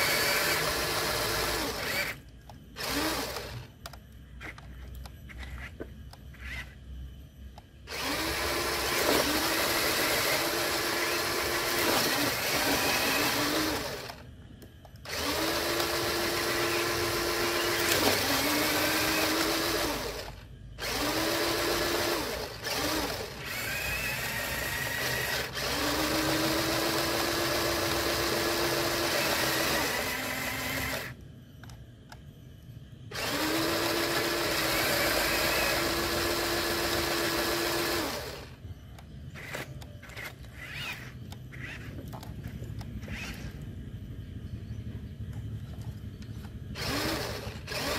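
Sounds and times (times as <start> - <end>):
toy truck electric motors whining: 0.0 - 7.0, 7.8 - 32.2, 33.1 - 43.8, 46.4 - 47.9.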